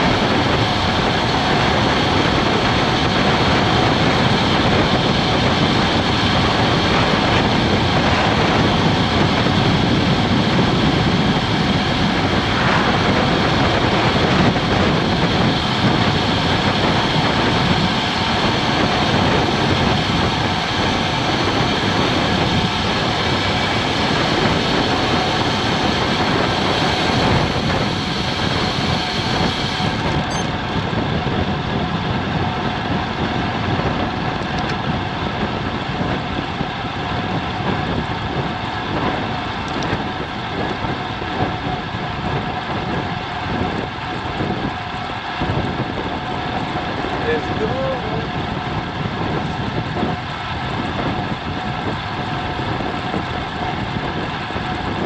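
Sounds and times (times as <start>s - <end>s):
bike tyres on tarmac: 0.0s - 55.0s
wind roaring on microphone: 0.0s - 55.0s.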